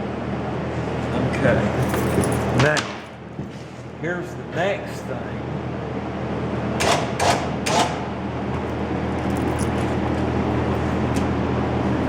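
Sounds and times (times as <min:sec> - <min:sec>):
elevator hoist machinery humming: 0:00.0 - 0:12.0.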